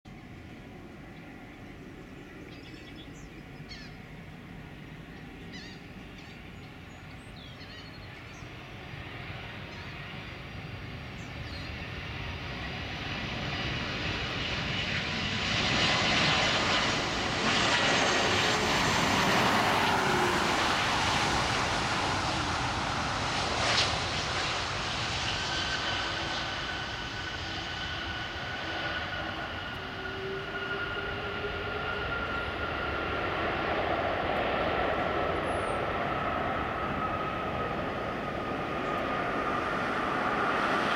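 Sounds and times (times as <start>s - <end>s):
jet engine whine: 0.1s - 40.9s.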